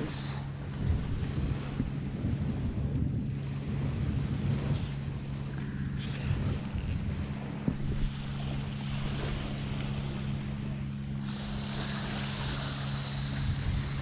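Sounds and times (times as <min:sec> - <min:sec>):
low engine drone: 0:00.0 - 0:14.0
small waves washing ashore: 0:00.0 - 0:14.0
wind buffeting microphone: 0:00.0 - 0:14.0.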